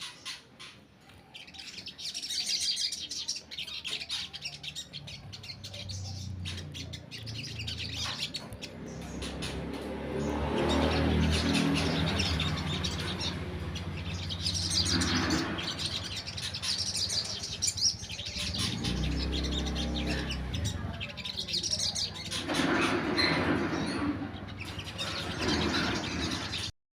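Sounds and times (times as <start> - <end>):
songbird chirping and twittering: 0.0 - 26.7.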